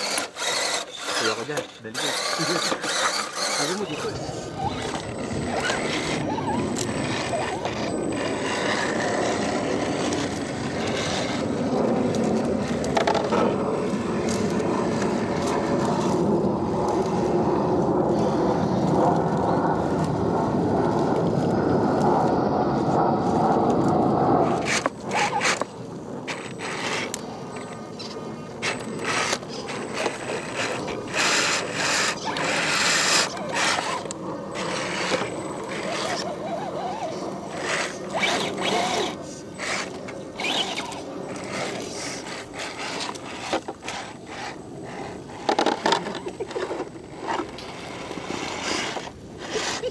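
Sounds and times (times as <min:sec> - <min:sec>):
tyres scraping over stone: 0:00.0 - 0:16.2, 0:24.4 - 0:49.9
small electric motors running: 0:00.0 - 0:49.9.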